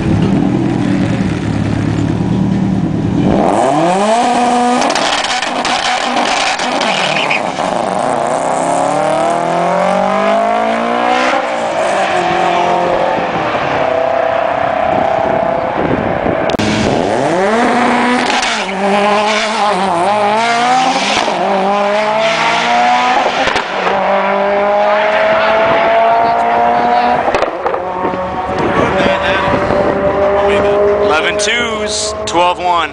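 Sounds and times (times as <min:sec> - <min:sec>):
car engines accelerating hard: 0:00.0 - 0:32.9.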